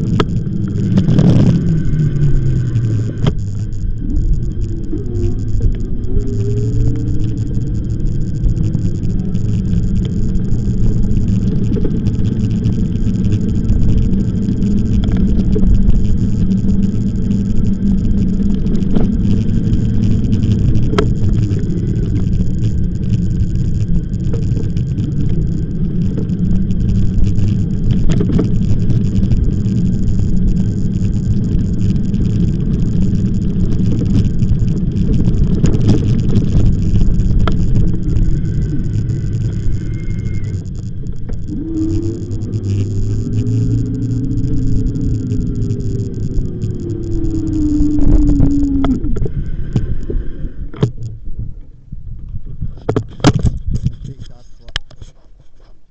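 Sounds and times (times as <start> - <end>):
sharp clicks and knocks: 0.0 - 1.6, 7.0 - 49.9, 52.2 - 55.8
wind and road rumble: 0.0 - 55.9.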